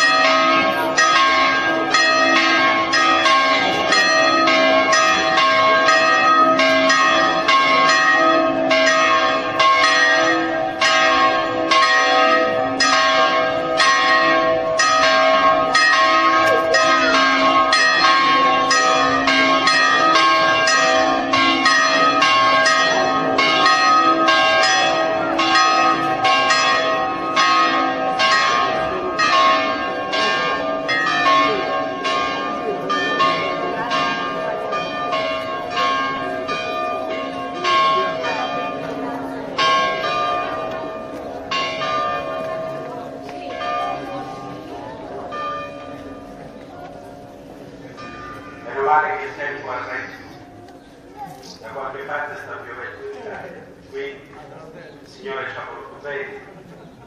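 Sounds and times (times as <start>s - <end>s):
church bells pealing: 0.0s - 56.8s.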